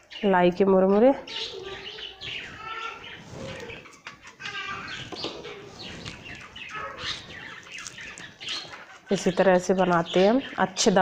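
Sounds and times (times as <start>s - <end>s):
birds chirping and clucking: 0.0s - 11.0s.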